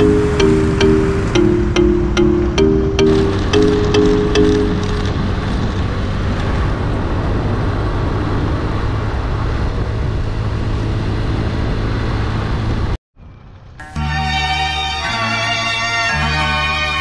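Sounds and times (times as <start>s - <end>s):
wind and road noise: 0.0s - 13.8s
motorbike engine hum: 0.0s - 15.6s.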